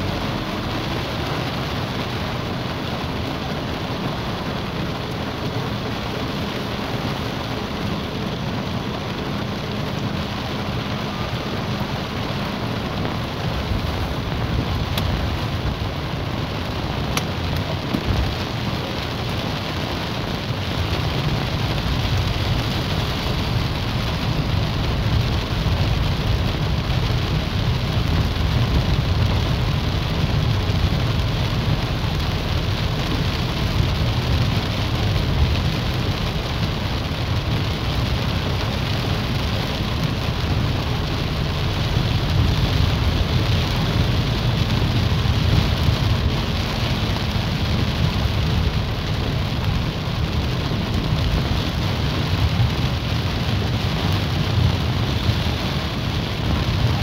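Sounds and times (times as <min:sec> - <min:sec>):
car driving on wet road: 0:00.0 - 0:57.0
heavy rain on a car: 0:00.0 - 0:57.0.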